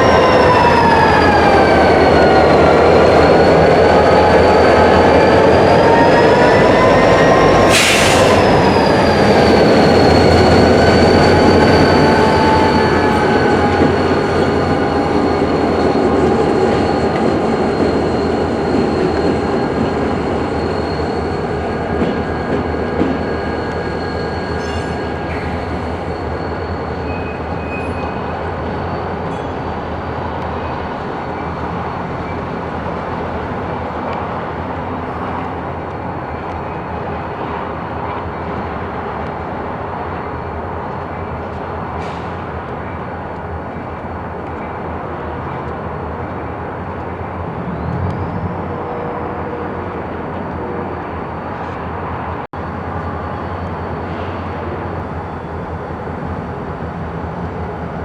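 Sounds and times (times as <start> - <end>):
freight train rumbling: 0.0 - 58.0.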